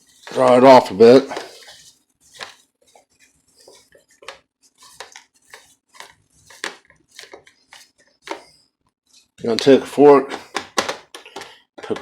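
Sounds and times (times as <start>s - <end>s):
paper towel dabbing and rustling: 0.0s - 11.1s.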